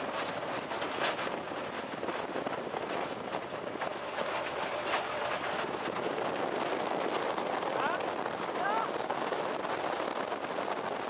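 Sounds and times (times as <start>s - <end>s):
metal rattling clatter: 0.0s - 9.2s.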